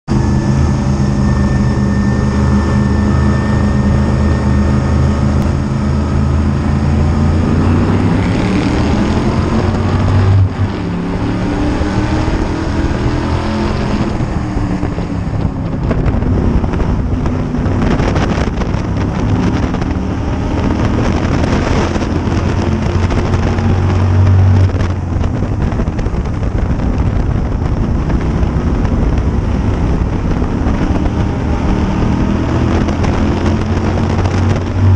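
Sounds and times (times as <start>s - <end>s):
race car engine revving: 0.1s - 34.9s
wind buffeting microphone: 0.1s - 34.9s.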